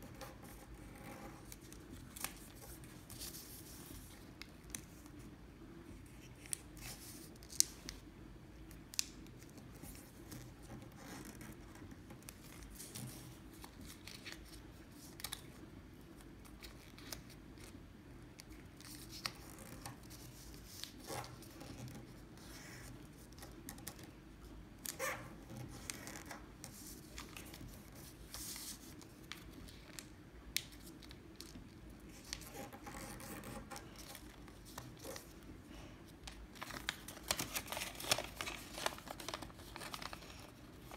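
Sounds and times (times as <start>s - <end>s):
paper being folded and creased: 0.0s - 5.3s, 5.9s - 8.0s, 8.7s - 17.8s, 18.4s - 24.1s, 24.8s - 35.5s, 36.1s - 40.9s
faint steady hum: 0.0s - 40.9s.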